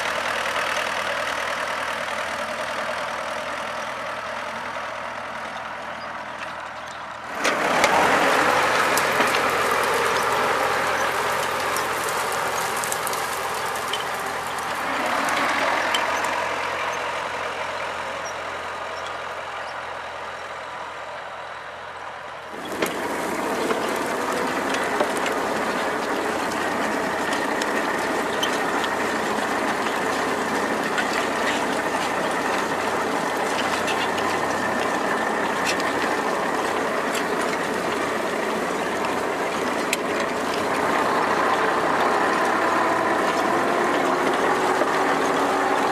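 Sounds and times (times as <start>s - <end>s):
diesel engine clattering: 0.0s - 45.9s.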